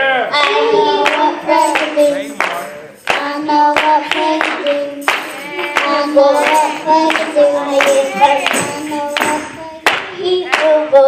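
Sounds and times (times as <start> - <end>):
children's choir singing gospel: 0.3 - 11.0
hand clapping: 0.4 - 10.9.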